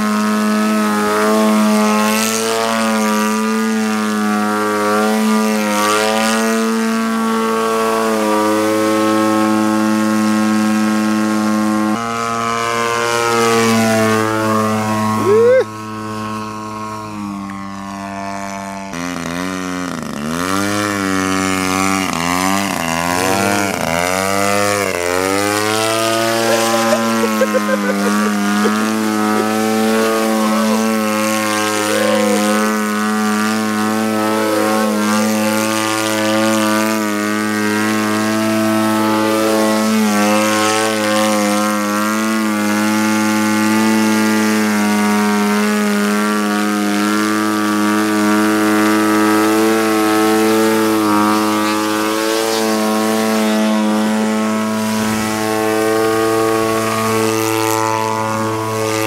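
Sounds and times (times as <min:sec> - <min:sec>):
model plane engine at high throttle: 0:00.0 - 0:59.0.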